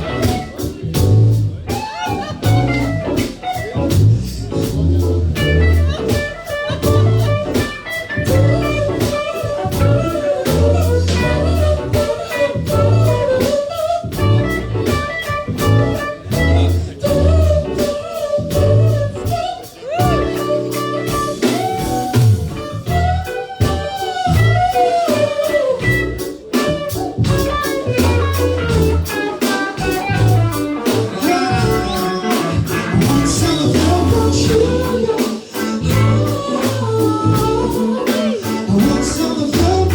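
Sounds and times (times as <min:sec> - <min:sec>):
band playing blues rock: 0:00.0 - 0:39.9
bass guitar: 0:00.0 - 0:39.9
drum kit beat: 0:00.0 - 0:39.9
electric guitar: 0:00.0 - 0:39.9.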